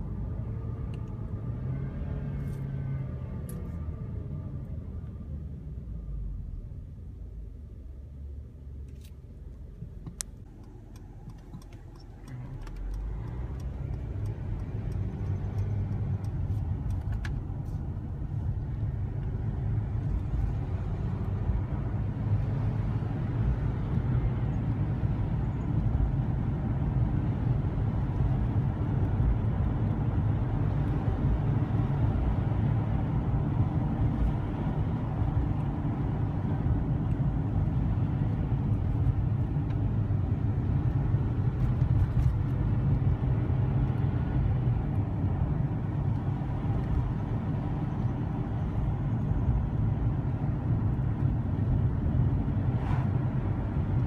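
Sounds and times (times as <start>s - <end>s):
car engine rumble: 0.0s - 54.0s
car tyres on road: 0.0s - 54.0s.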